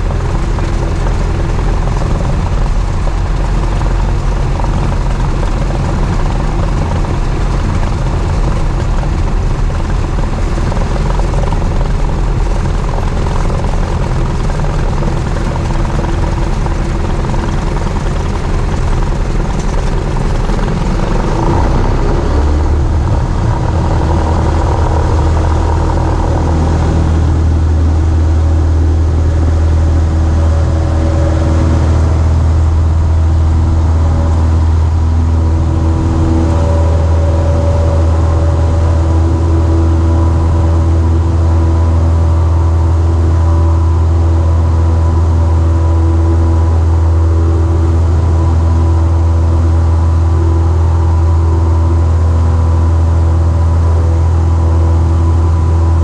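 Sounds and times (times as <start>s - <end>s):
light airplane engine and propeller: 0.0s - 56.0s.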